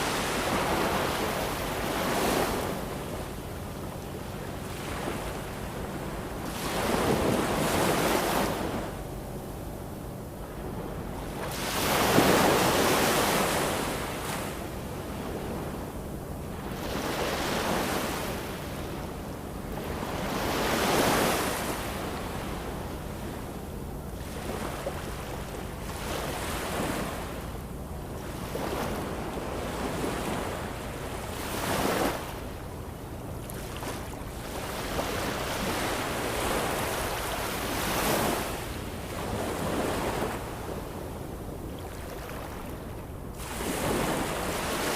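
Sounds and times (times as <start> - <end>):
ocean waves breaking on shore: 0.0 - 9.0, 10.4 - 44.9.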